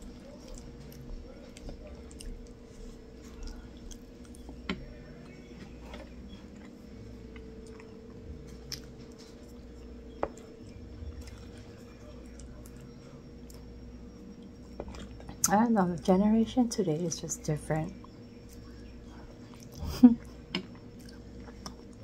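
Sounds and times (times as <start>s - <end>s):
chewing and wet mouth sounds: 0.0s - 15.6s, 18.0s - 22.0s.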